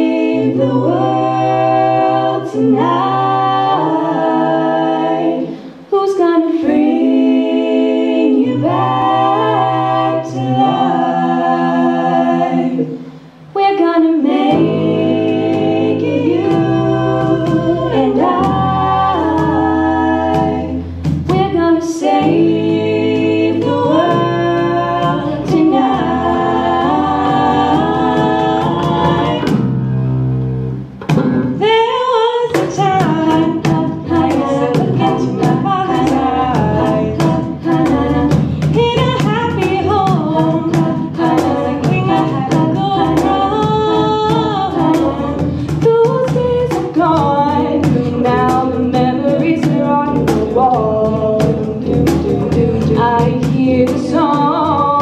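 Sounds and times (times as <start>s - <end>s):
young voices singing in harmony: 0.0s - 55.0s.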